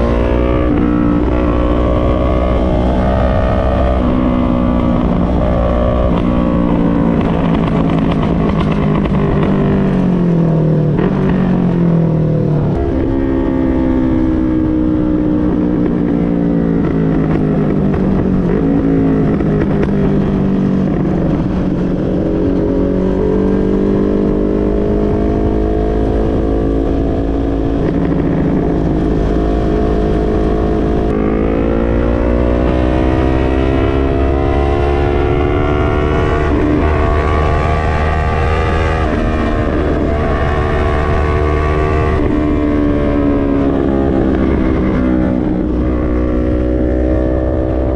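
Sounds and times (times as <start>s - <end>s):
low wind rumble: 0.0s - 47.9s
motorcycle engine revving: 0.0s - 47.9s.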